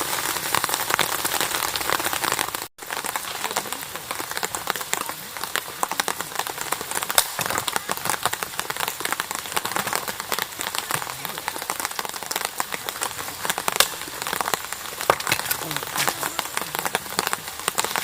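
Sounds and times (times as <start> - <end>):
rain falling: 0.0 - 18.0
raindrops ticking on surface: 0.0 - 18.0.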